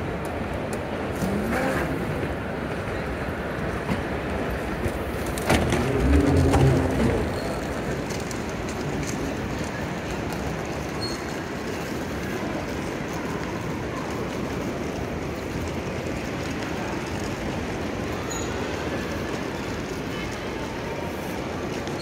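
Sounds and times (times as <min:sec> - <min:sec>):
hubbub of a large hall: 0:00.0 - 0:22.0
trolley wheels rolling on tiles: 0:00.0 - 0:22.0.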